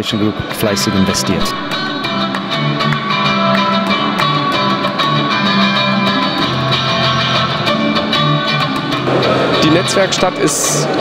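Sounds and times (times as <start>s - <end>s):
pipe guitar playing: 0.0s - 11.0s.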